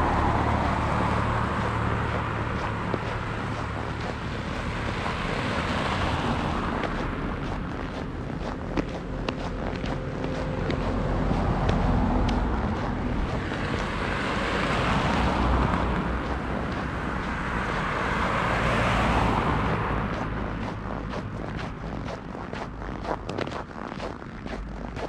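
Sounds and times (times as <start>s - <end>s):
cars driving past on snow: 0.0s - 25.0s
footsteps crunching on snow: 0.0s - 25.0s.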